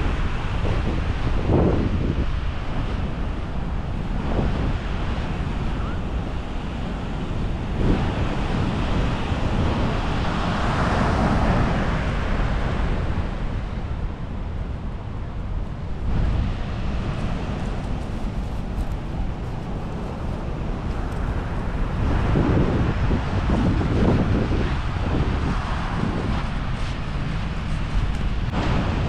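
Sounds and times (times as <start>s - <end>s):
surf breaking on beach: 0.0s - 13.8s, 16.0s - 29.0s
wind buffeting microphone: 0.0s - 29.0s.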